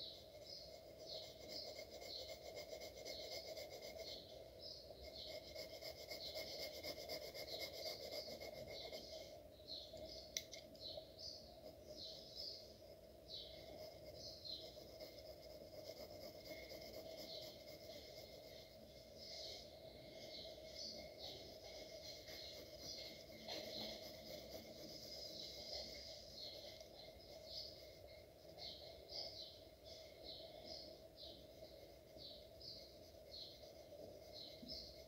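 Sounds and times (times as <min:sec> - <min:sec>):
pencil scratching on paper: 0:00.0 - 0:09.4, 0:11.4 - 0:35.0
steady low hum: 0:00.0 - 0:35.0.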